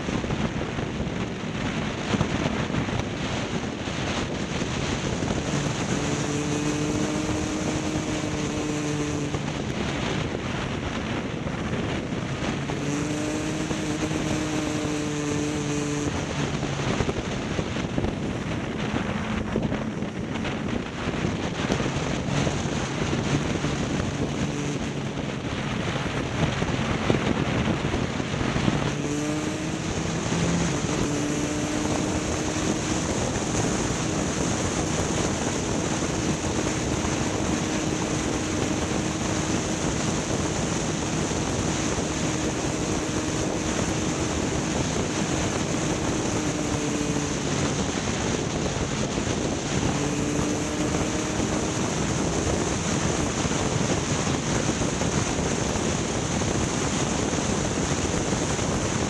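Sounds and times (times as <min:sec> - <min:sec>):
vehicle engine running: 0:00.0 - 0:59.0
wind and road noise: 0:00.0 - 0:59.0.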